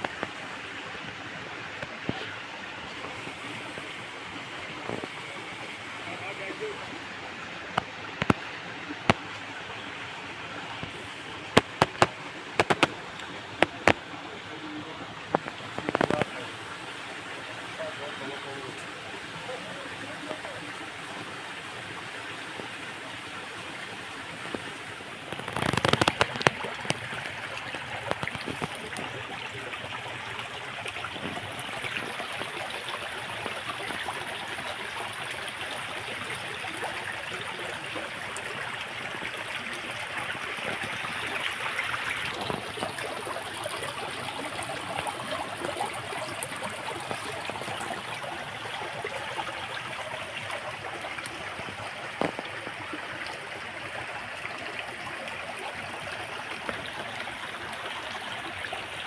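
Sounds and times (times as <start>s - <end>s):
stream running over stones: 0.0s - 59.0s.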